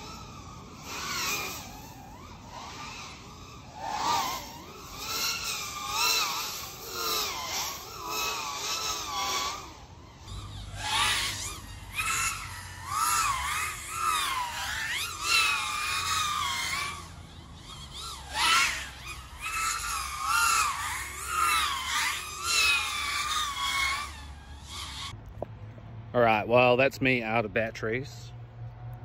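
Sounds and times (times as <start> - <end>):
quadcopter motors whining: 0.0 - 25.6.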